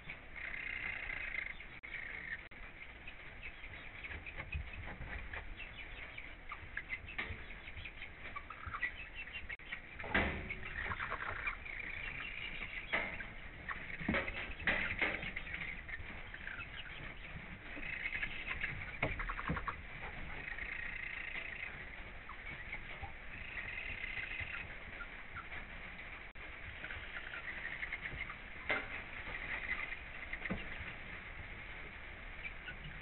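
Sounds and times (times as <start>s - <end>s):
hens clucking and trilling: 0.0s - 33.0s
hens pecking and scratching litter: 0.0s - 33.0s.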